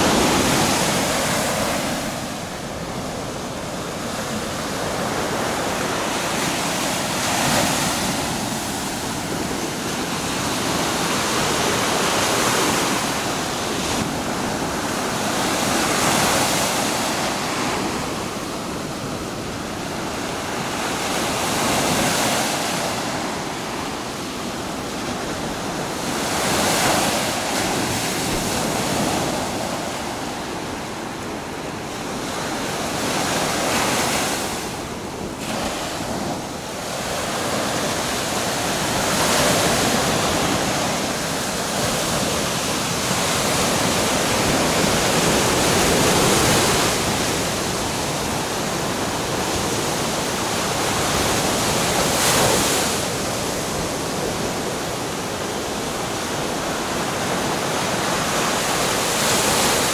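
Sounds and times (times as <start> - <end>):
small waves washing on beach: 0.0 - 59.9.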